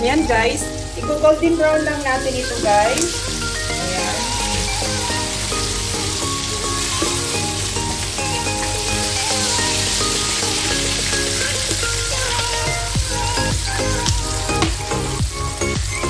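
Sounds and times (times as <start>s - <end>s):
light background music: 0.0s - 16.0s
oil sizzling while deep-frying: 0.0s - 16.0s.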